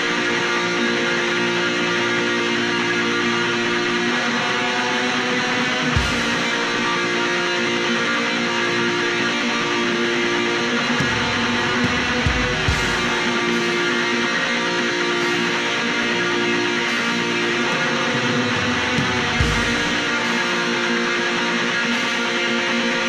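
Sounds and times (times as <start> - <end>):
distorted electric guitar metal music: 0.0 - 23.0.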